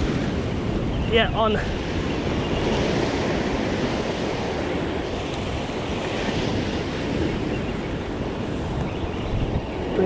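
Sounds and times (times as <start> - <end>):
ocean surf against rocks: 0.0 - 10.0
wind rumbling on microphone: 0.0 - 10.0.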